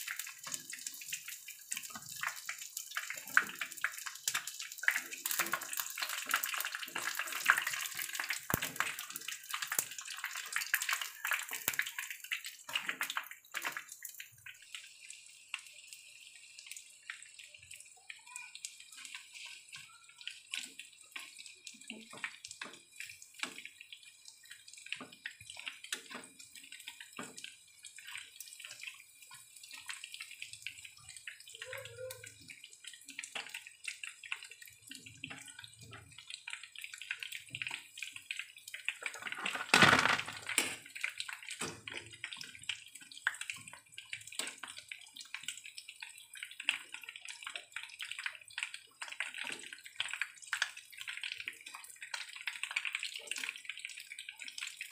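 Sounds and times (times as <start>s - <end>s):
chicken frying in hot oil: 0.0s - 54.9s.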